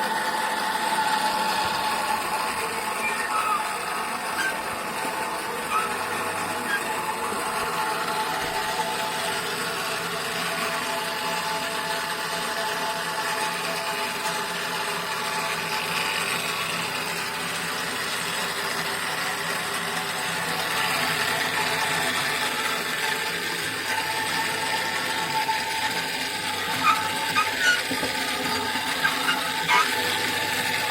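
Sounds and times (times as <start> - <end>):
drill motor running: 0.0 - 30.9.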